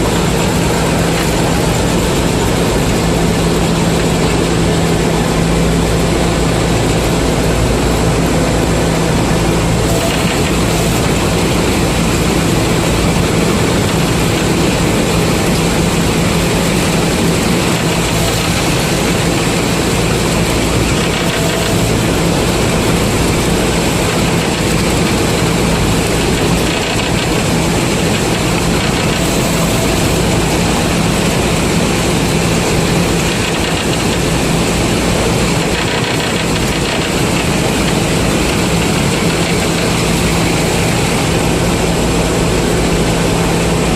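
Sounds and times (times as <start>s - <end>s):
diesel engine droning: 0.0s - 43.9s.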